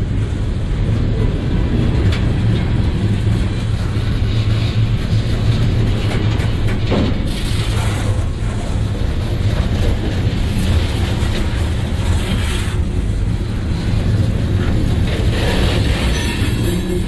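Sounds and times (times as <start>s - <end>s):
train clanks: 0.0s - 17.0s
train wheels rumbling on rails: 0.0s - 17.0s.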